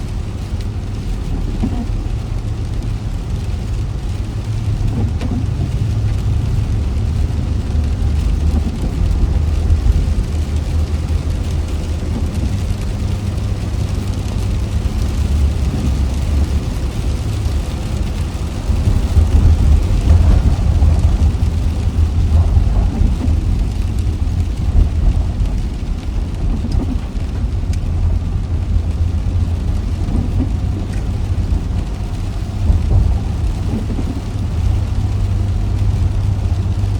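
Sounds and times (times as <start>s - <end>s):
rain hiss: 0.0s - 36.9s
road rumble: 0.0s - 36.9s.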